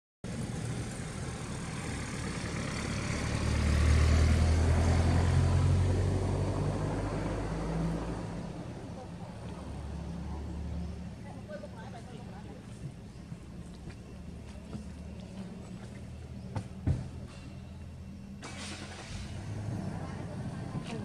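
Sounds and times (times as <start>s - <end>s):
vehicle engine driving past: 0.3s - 12.6s, 13.2s - 21.0s.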